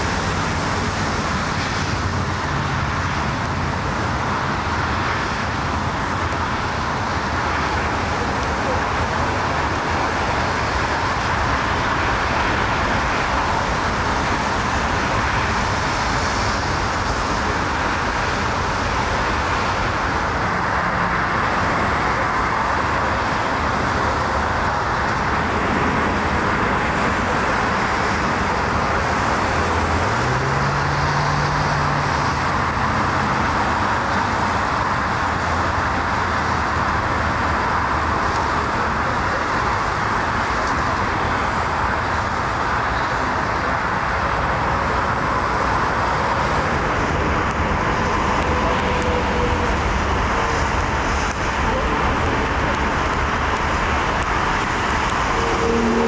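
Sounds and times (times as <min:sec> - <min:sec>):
motorway traffic roar: 0:00.0 - 0:56.0.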